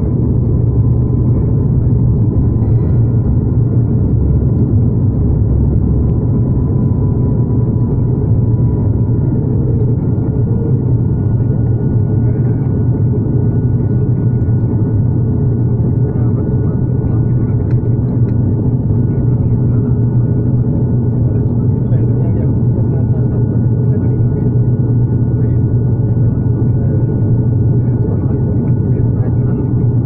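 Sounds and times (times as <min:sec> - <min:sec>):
faint steady whine: 0:00.0 - 0:30.0
low propeller drone: 0:00.0 - 0:30.0.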